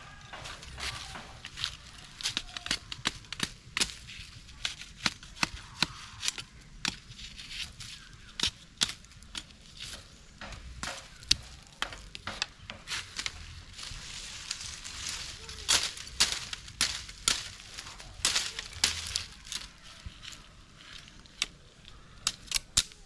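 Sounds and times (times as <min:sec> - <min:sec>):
bamboo and sticks cracking: 0:00.0 - 0:23.0.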